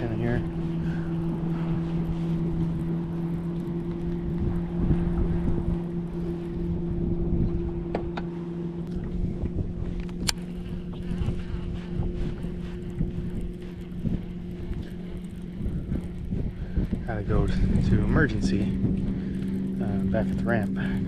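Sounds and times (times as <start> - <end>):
electric motor humming: 0.0 - 21.0
wind and water noise: 0.0 - 21.0.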